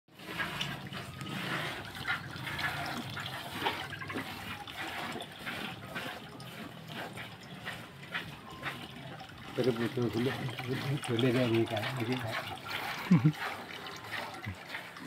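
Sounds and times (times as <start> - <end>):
milk squirting into plastic bucket: 0.1 - 15.0
water pouring into metal barrel: 0.1 - 15.0.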